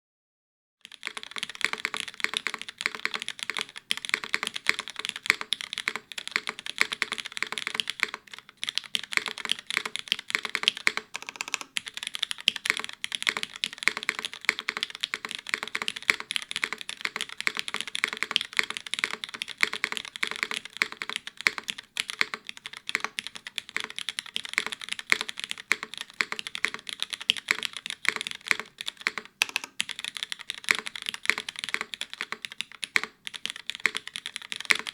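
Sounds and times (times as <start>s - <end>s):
mechanical keyboard typing: 0.8s - 34.9s.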